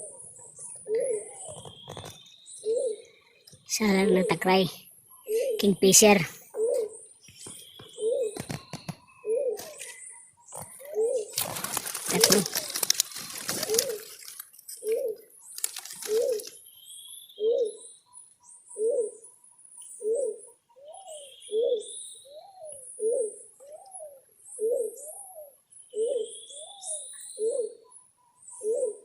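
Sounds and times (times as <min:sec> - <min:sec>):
dove cooing: 0:00.0 - 0:03.2, 0:05.3 - 0:16.5, 0:17.4 - 0:17.9, 0:18.8 - 0:19.2, 0:20.0 - 0:27.9, 0:28.6 - 0:29.0
small birds chirping: 0:00.0 - 0:29.0.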